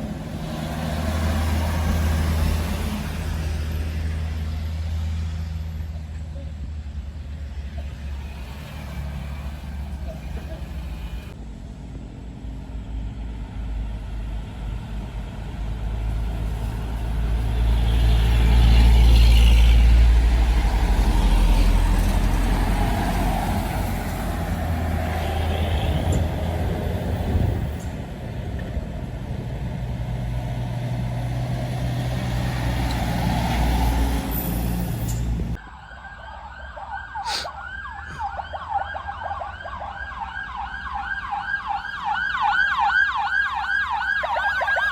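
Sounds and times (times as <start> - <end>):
buses driving on wet road: 0.0 - 35.9, 37.2 - 44.9.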